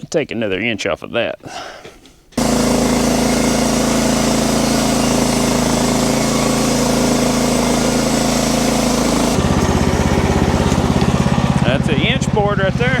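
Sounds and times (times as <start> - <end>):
band sawmill sawing log: 2.4 - 13.0.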